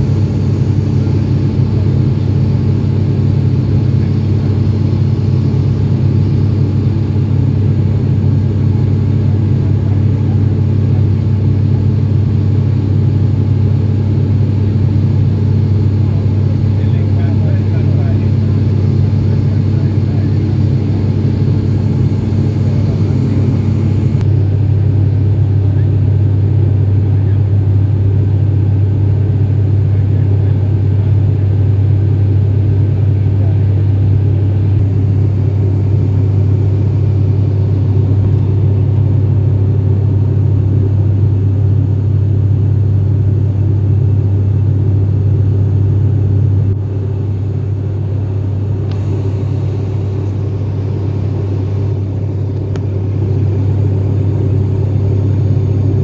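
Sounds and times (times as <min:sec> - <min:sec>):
propeller aircraft cabin drone: 0:00.0 - 0:56.0.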